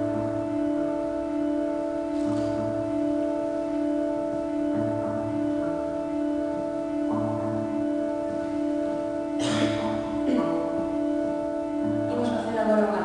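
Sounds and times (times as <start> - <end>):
held drone chord: 0.0 - 13.0
low bass notes: 0.0 - 13.0.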